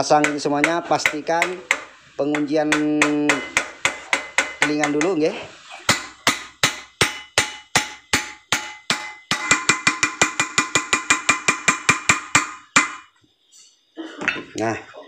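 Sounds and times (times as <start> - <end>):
hammer striking steel tube: 0.0 - 5.3, 5.9 - 13.1.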